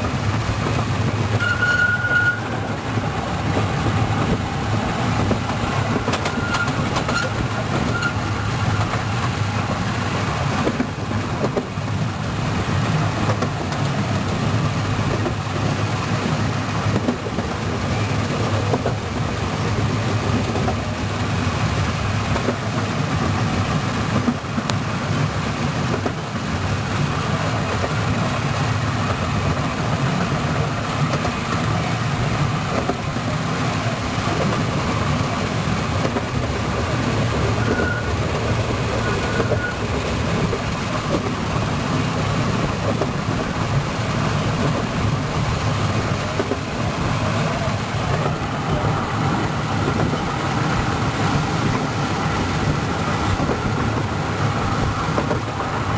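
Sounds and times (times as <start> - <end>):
trolley wheels rumbling on rails: 0.0 - 55.9.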